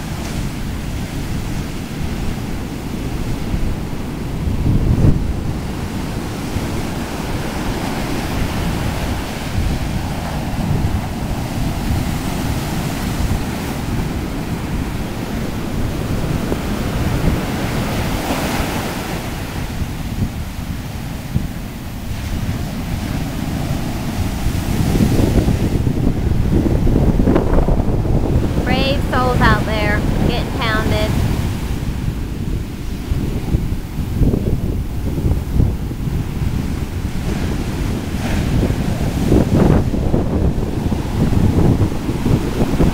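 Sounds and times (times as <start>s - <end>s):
heavy waves crashing: 0.0s - 42.9s
wind noise on microphone: 0.0s - 42.9s.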